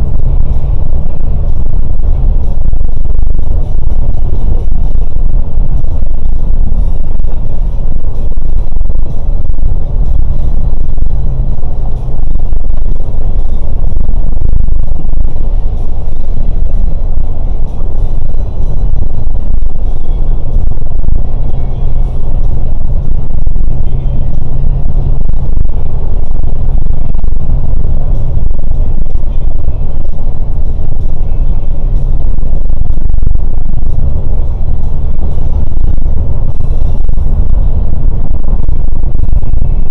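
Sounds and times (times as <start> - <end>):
coach engine and road rumble: 0.0 - 39.9.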